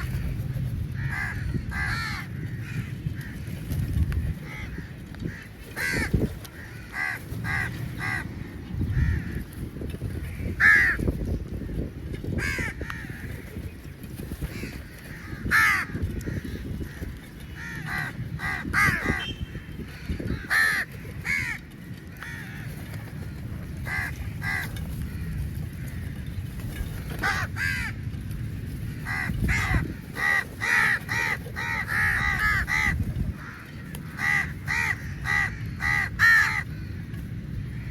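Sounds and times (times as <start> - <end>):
crows cawing: 1.0 - 3.5, 4.2 - 9.5, 10.1 - 11.1, 12.3 - 13.3, 14.5 - 26.3, 27.2 - 28.2, 28.8 - 37.9.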